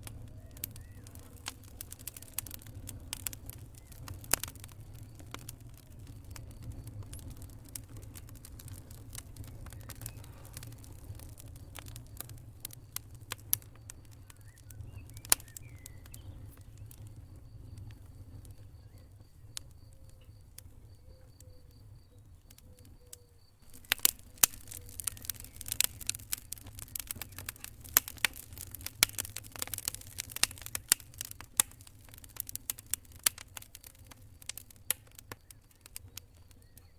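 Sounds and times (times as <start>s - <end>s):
low rumble of flames: 0.0s - 36.9s
wood fire crackling and popping: 0.0s - 36.9s.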